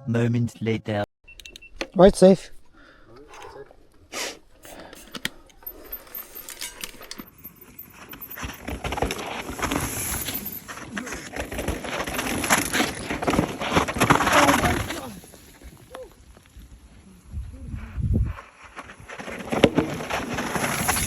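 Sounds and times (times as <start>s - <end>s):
bike rattling: 1.4s - 16.6s, 18.6s - 21.0s
tyres crunching over loose dirt: 1.4s - 17.0s, 18.4s - 21.0s.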